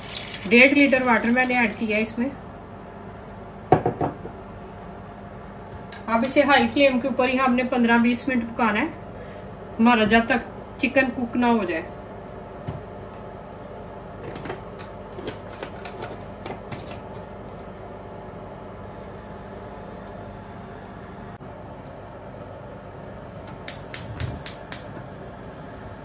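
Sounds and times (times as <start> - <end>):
low kitchen hum: 0.0 - 26.0.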